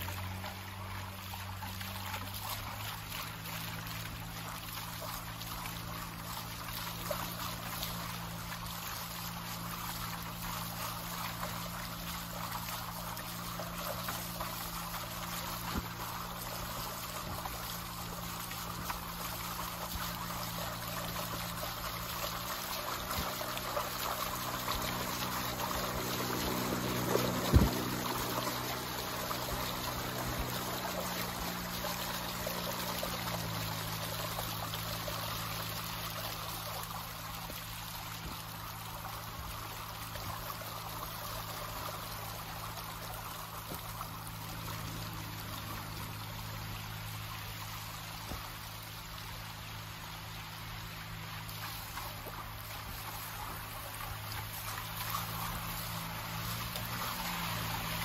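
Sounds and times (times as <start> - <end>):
boat motor humming: 0.0 - 58.0
river water washing past boat: 0.0 - 58.0.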